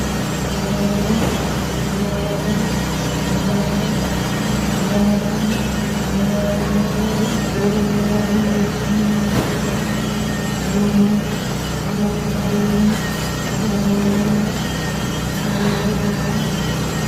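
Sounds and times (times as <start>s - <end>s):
machine engine humming: 0.0s - 17.0s.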